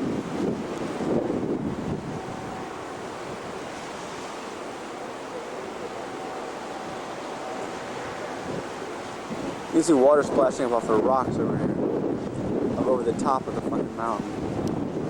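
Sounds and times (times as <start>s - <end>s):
surf breaking on rocks: 0.0s - 15.0s
wind buffeting microphone: 0.0s - 15.0s.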